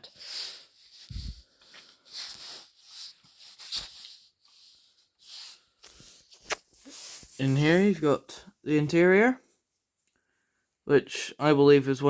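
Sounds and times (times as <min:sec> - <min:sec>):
soft rustling hiss: 0:00.0 - 0:10.2.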